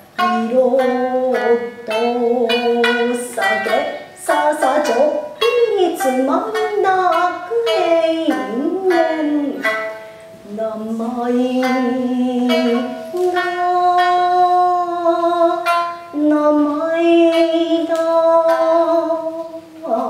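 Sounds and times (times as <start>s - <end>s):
shamisen plucks: 0.0s - 20.0s.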